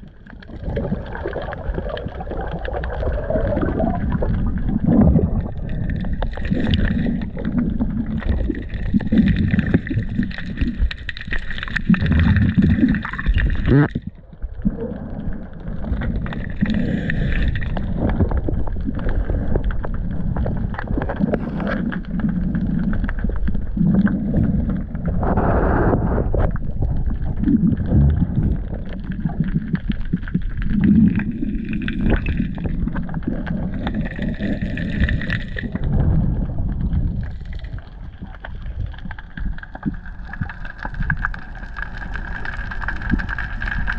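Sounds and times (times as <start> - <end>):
muffled underwater rumble and gurgling: 0.0 - 43.9.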